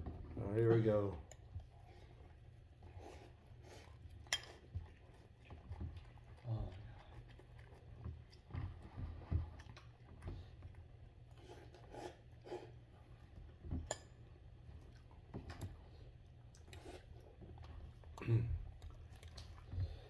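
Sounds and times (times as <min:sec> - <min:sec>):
wet chewing sounds: 0:01.0 - 0:20.0.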